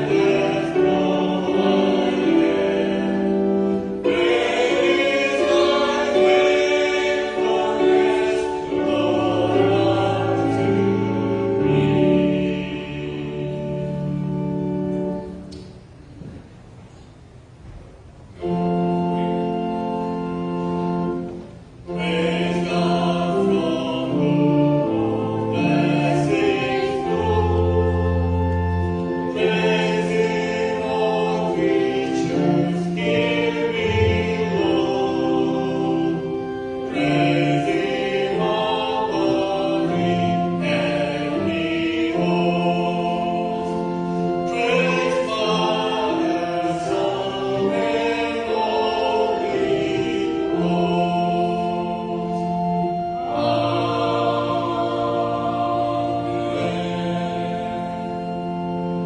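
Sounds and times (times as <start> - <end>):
choir singing a hymn: 0.0 - 16.4, 18.3 - 59.0
organ chords: 0.0 - 59.0.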